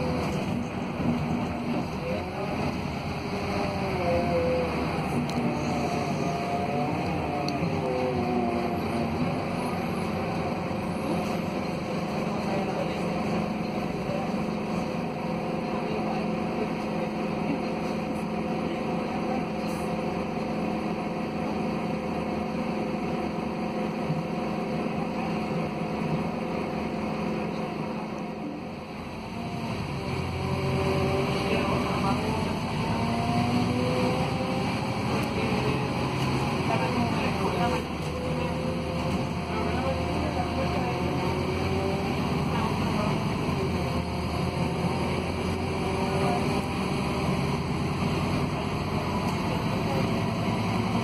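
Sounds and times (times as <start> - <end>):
bus diesel engine under load: 0.0 - 51.0
road noise: 0.0 - 51.0.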